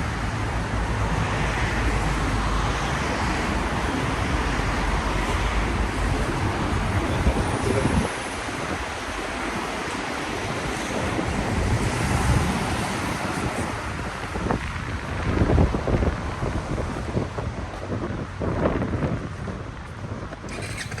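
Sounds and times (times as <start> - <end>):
low traffic rumble: 0.0 - 21.0
tyres on wet road: 0.0 - 21.0.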